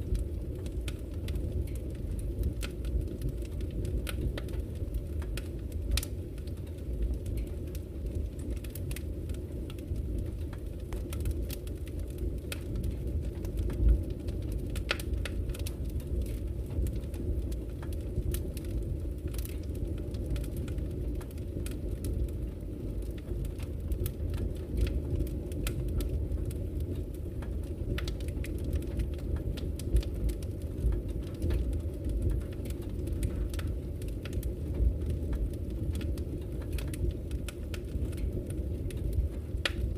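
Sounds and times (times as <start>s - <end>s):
sharp fire pops and snaps: 0.0s - 39.9s
wood fire crackling: 0.0s - 39.9s.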